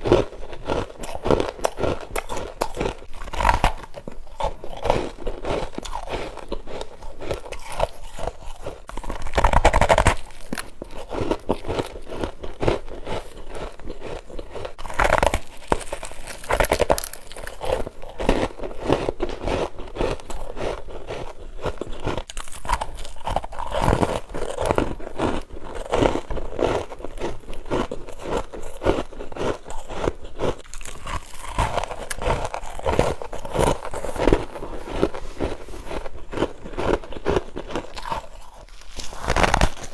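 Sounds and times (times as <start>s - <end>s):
crunching bites of frost: 0.0s - 39.9s.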